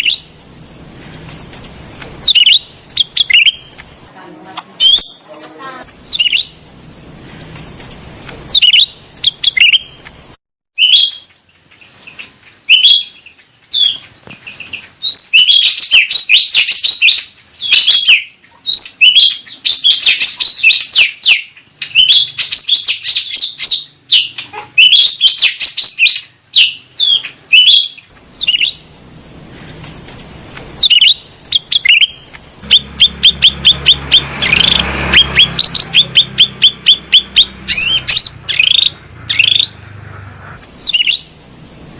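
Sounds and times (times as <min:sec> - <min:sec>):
songbird chirping and trilling: 0:00.0 - 0:10.2, 0:10.8 - 0:41.9.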